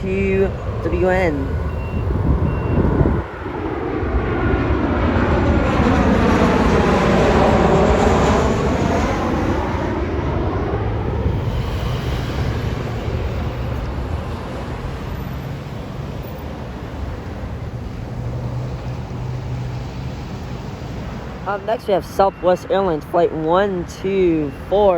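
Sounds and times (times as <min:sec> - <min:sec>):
jet engine whine: 0:00.0 - 0:24.9.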